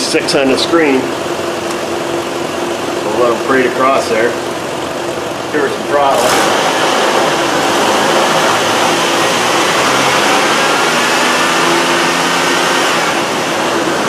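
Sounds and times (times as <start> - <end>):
car engine at raised revs: 0.0 - 14.0.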